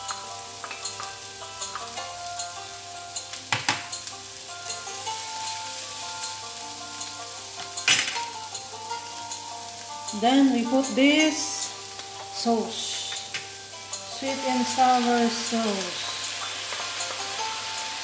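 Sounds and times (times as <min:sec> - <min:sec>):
vegetables sizzling in frying pan: 0:00.0 - 0:18.0.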